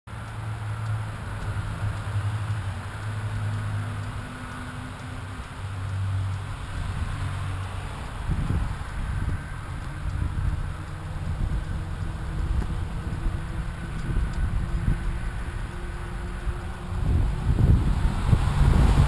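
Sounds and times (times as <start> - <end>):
road traffic: 0.1 - 19.0
wind over camera: 0.8 - 19.0.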